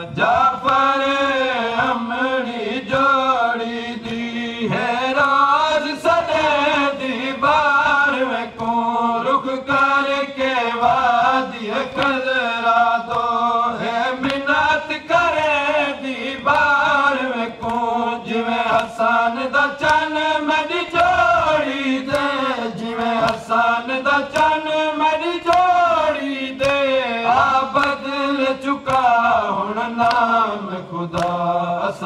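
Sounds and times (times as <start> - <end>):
group of men chanting: 0.0 - 32.0
lead reciter singing into microphone: 0.0 - 32.0.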